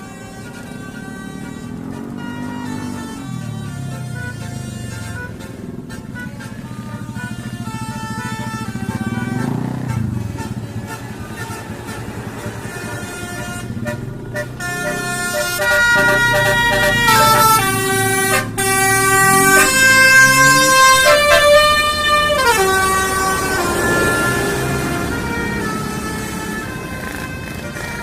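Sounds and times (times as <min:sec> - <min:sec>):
multi-tone horn playing a tune: 0:00.0 - 0:28.0.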